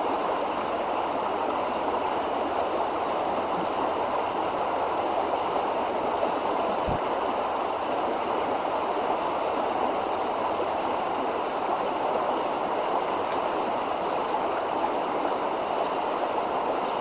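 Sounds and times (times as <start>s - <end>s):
river water rushing over rapids: 0.0s - 17.0s.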